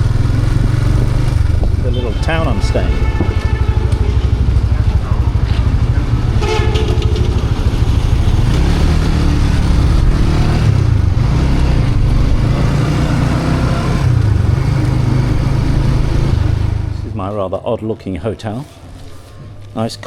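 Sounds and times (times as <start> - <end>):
motorbike engine revving: 0.0 - 17.2.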